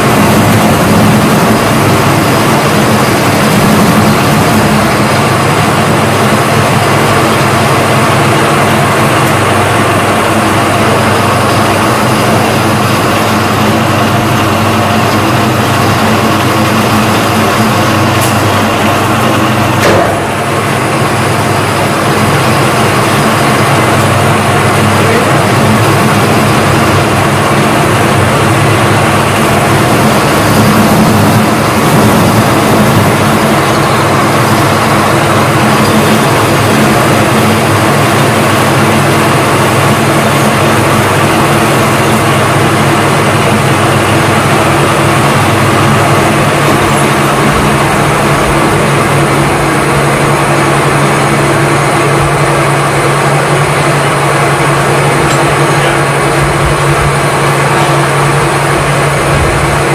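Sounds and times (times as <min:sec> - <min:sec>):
metal lathe humming: 0:00.0 - 0:59.9.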